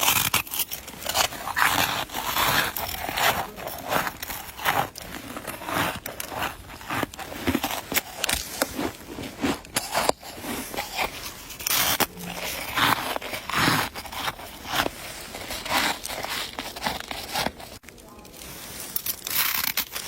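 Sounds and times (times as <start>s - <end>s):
ice being chewed: 0.0s - 20.0s.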